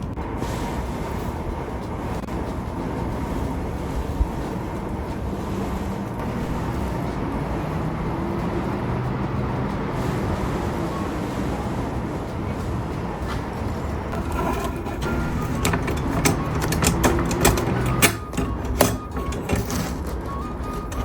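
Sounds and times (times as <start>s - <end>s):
heavy vehicle engine rumble: 0.0s - 21.0s.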